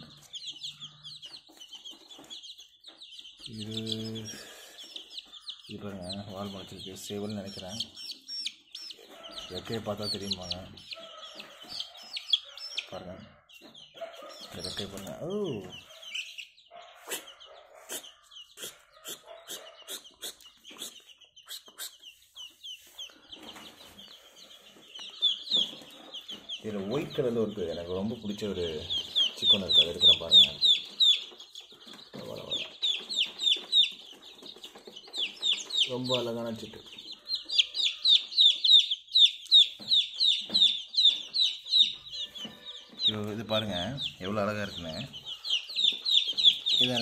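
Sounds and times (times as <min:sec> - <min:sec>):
chicks peeping: 0:00.0 - 0:47.0.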